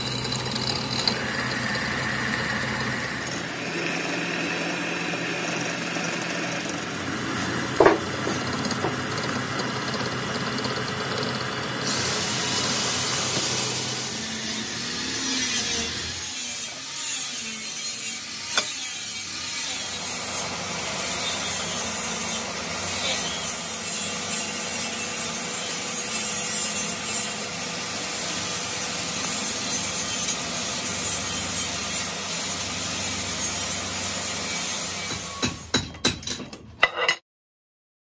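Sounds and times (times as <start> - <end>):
metal lathe cutting steel: 0.0 - 35.6.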